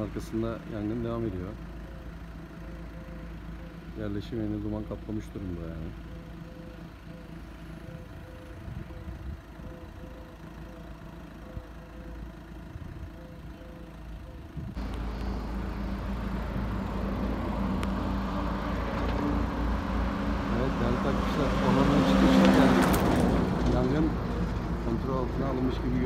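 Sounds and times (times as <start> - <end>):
car engine with road noise: 0.0 - 26.0.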